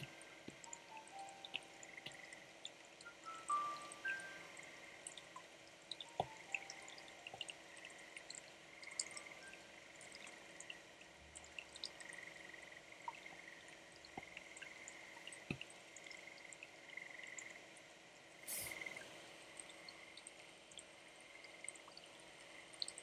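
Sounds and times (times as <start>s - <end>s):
rain drips and ticks: 0.0s - 23.0s.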